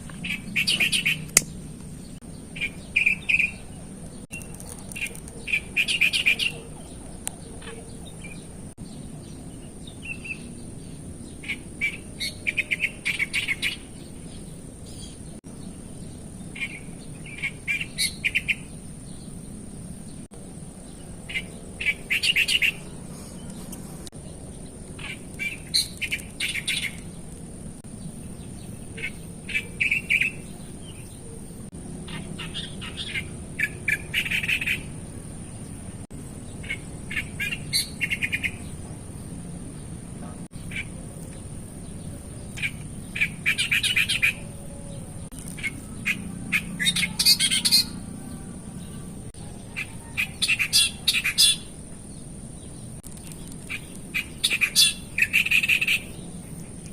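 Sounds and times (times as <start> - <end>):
wild birds chirping: 0.0 - 56.9.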